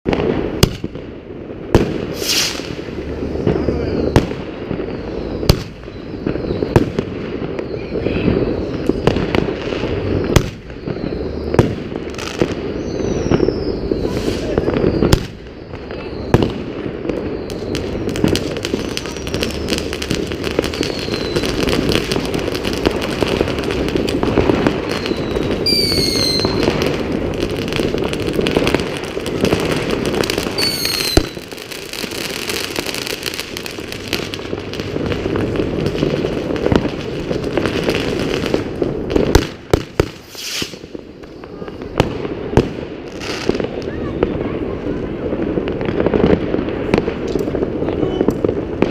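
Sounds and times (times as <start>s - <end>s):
fireworks bangs and crackles: 0.0s - 48.9s
firework whistles: 1.7s - 42.1s.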